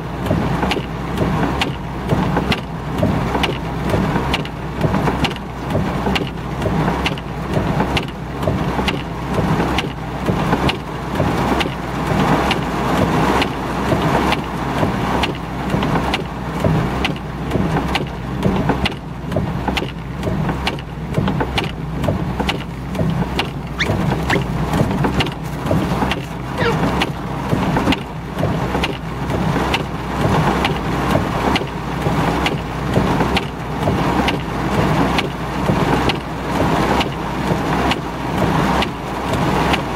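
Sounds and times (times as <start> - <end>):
heavy rain on car roof: 0.0 - 39.9
windshield wipers sweeping: 0.0 - 39.9.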